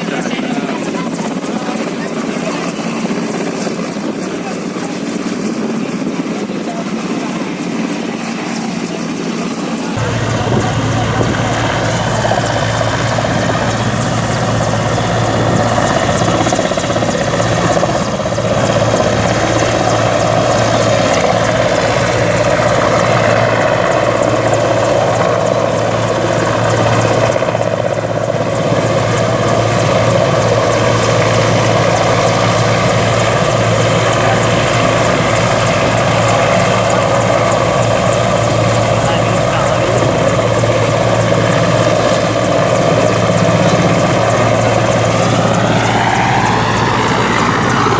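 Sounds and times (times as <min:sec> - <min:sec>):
helicopter rotor and engine: 0:00.0 - 0:47.9.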